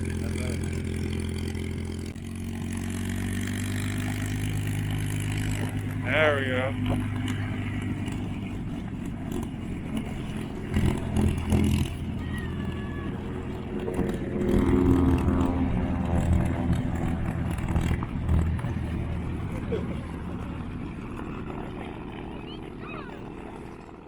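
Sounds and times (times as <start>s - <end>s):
engine passing by: 0.0s - 24.0s.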